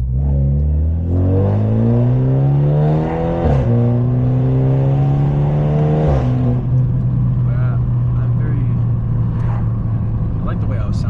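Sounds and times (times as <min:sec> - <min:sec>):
car exhaust accelerating: 0:00.0 - 0:11.0.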